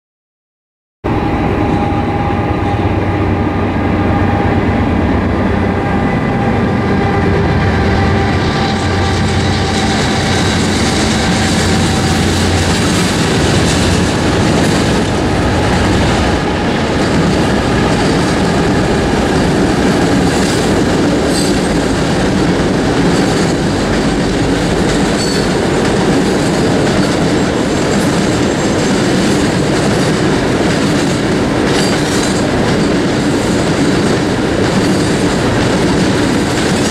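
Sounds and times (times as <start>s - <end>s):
diesel locomotive engine drone: 1.0s - 36.9s
train wheel clatter: 7.0s - 36.9s.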